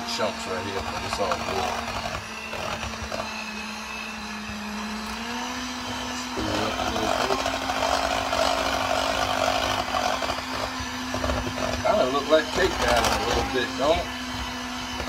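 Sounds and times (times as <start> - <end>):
electric hand mixer whirring: 0.0 - 15.0.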